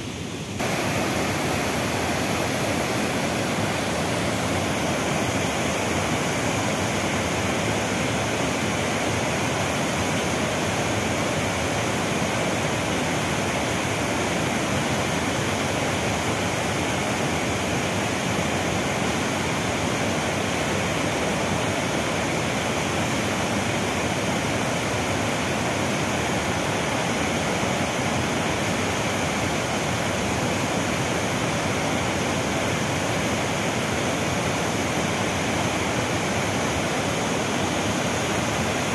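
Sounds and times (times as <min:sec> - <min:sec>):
floodwater rushing over boulders: 0:00.0 - 0:38.9
waterfall roaring: 0:00.0 - 0:38.9.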